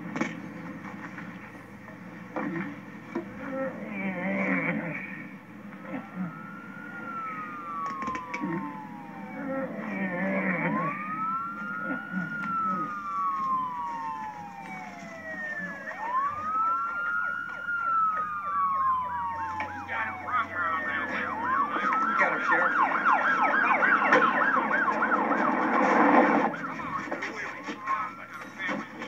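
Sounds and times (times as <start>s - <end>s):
police siren wailing: 0.0s - 29.0s.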